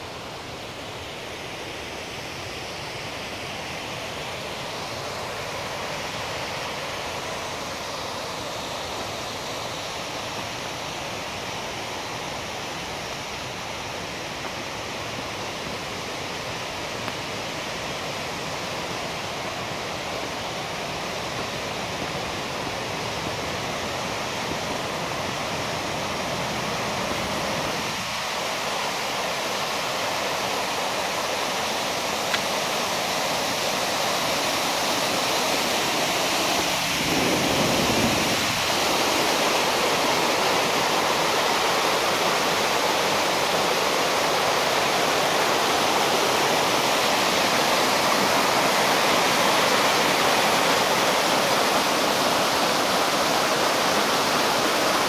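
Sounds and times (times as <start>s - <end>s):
water rushing over rapids: 0.0s - 55.0s.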